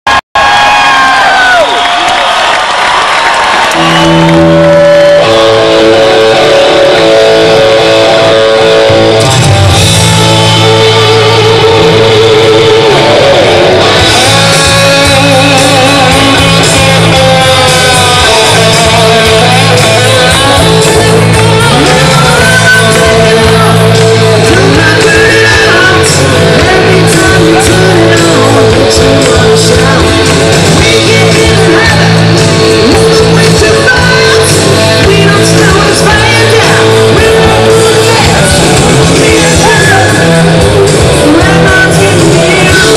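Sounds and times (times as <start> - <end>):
electric guitar: 2.4 - 42.9
rock band playing live: 3.5 - 42.9.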